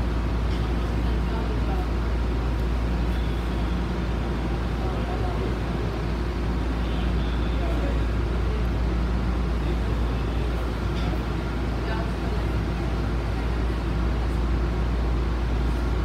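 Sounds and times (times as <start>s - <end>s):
subway car equipment humming: 0.0s - 16.0s.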